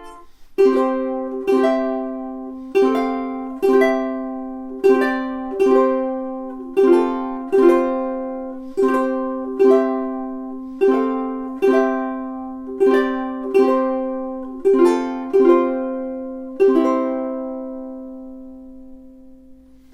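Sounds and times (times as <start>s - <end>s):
ukulele chords: 0.0s - 19.9s.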